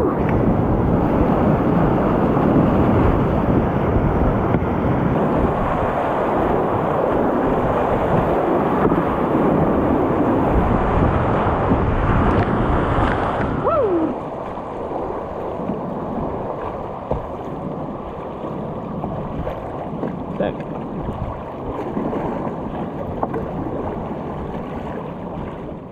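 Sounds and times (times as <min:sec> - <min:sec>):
whitewater river roaring: 0:00.0 - 0:25.9
wind buffeting microphone: 0:00.0 - 0:25.9.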